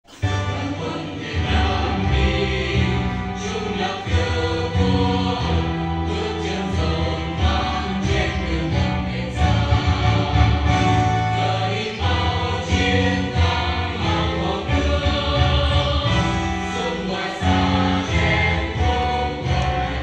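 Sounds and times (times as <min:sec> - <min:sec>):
choir singing: 0:00.0 - 0:20.0
instrumental accompaniment: 0:00.0 - 0:20.0.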